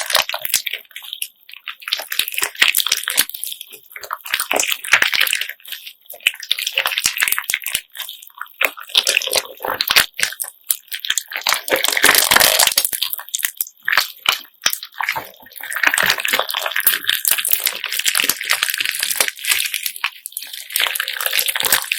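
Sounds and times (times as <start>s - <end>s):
wet slime squelching: 0.0s - 21.9s.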